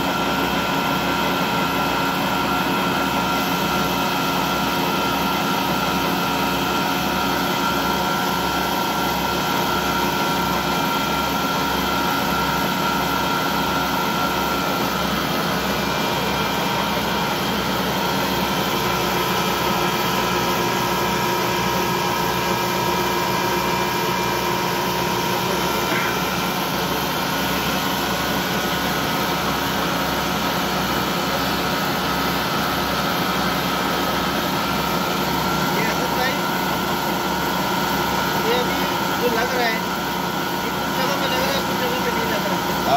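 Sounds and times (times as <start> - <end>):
lathe machine drone: 0.0 - 42.9.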